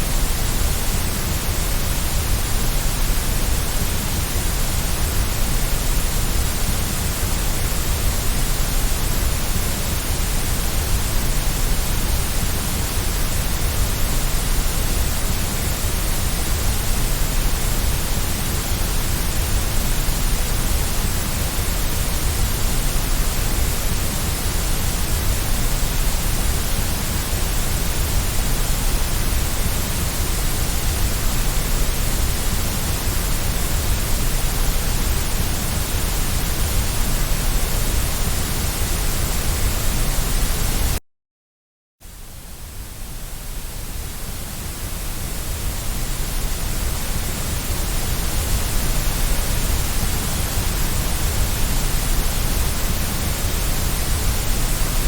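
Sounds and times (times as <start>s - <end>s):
steady white noise hiss: 0.0s - 41.0s, 42.0s - 55.0s.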